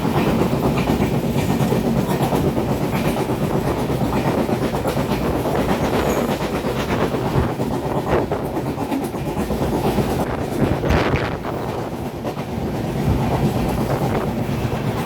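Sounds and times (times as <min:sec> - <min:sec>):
train rumbling over bridge: 0:00.0 - 0:15.0
wheels clattering over rail joints: 0:00.0 - 0:15.0.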